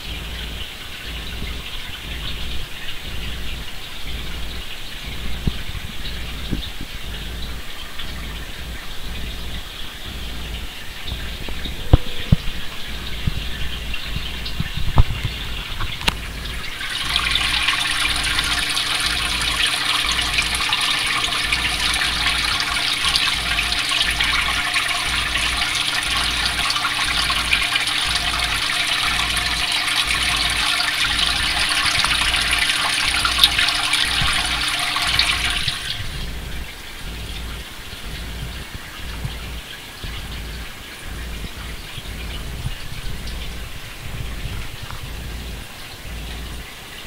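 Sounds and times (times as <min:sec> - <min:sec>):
aquarium water rushing and splashing: 0:00.0 - 0:47.0
faint low hum: 0:00.0 - 0:47.0.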